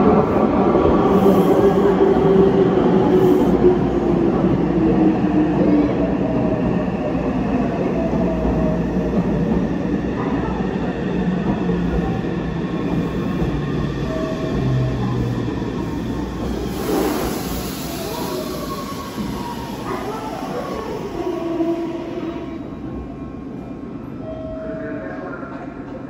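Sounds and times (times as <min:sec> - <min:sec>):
train wheel and rail noise: 0:00.0 - 0:26.0.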